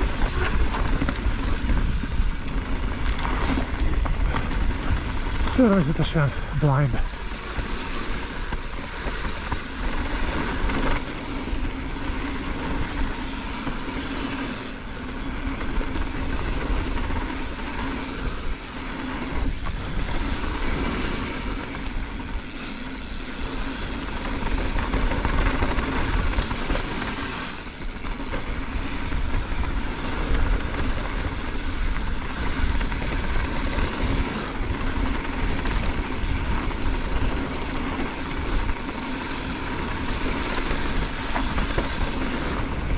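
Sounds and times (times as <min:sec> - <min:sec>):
tyres rattling over dirt: 0:00.0 - 0:42.9
wind rushing over microphone: 0:00.0 - 0:42.9.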